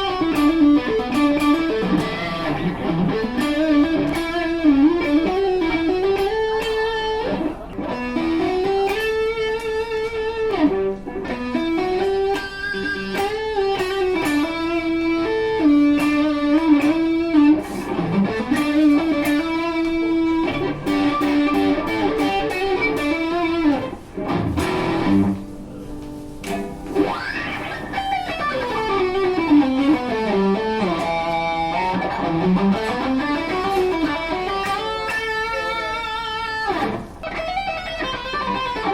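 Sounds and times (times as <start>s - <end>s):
electric guitar lead line: 0.0s - 38.9s.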